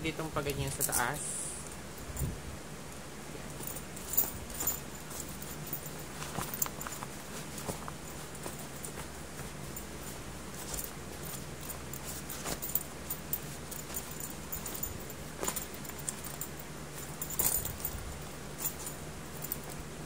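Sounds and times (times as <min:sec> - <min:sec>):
steady low hum: 0:00.0 - 0:20.0
fabric rustling: 0:03.3 - 0:20.0
backpack hardware clicks and jingles: 0:03.5 - 0:19.9.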